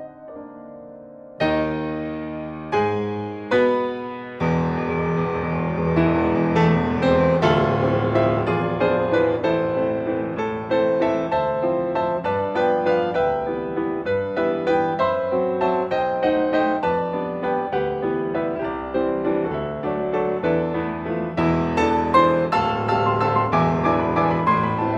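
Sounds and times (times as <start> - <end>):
solo grand piano: 0.0 - 24.9.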